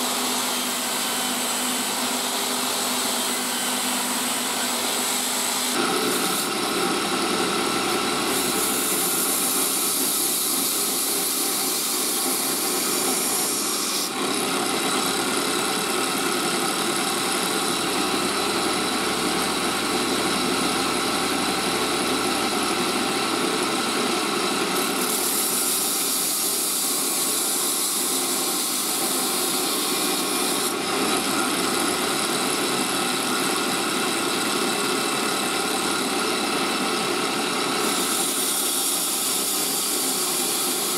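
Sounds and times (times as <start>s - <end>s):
belt grinder grinding: 0.0s - 40.9s.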